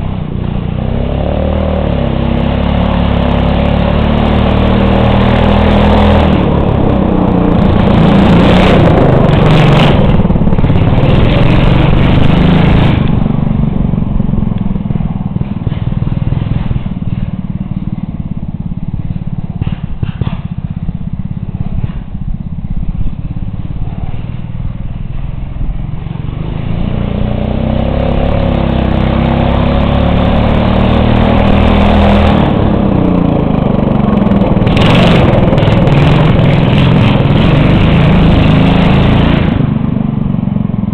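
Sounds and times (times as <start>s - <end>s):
lawnmower engine revving: 0.0s - 40.9s.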